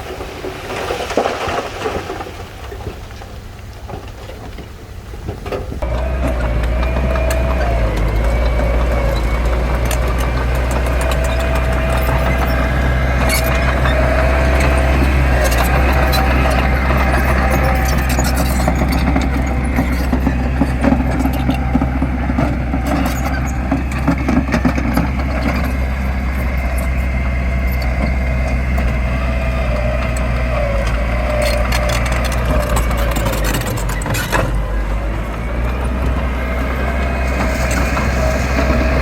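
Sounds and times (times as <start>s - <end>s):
heavy diesel engine running: 3.4s - 39.0s.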